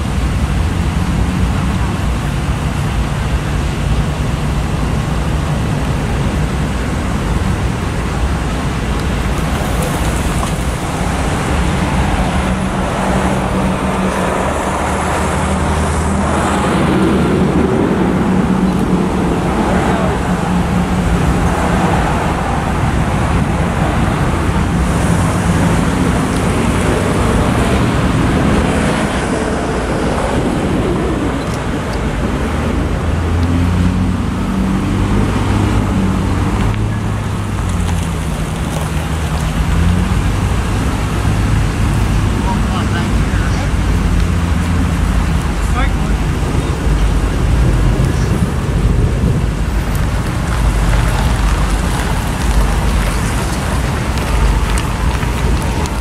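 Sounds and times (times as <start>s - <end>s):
low engine hum: 0.0s - 56.0s
road traffic: 0.0s - 56.0s
steady rushing noise: 0.0s - 56.0s.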